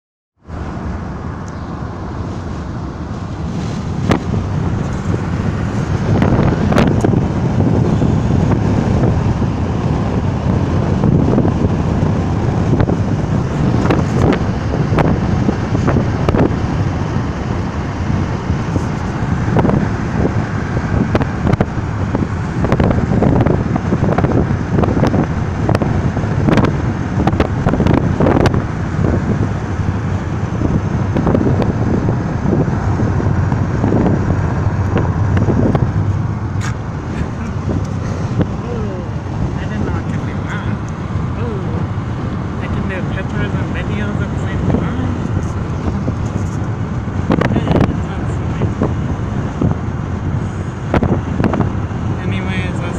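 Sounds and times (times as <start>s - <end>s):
road and wind noise: 0.4s - 52.9s.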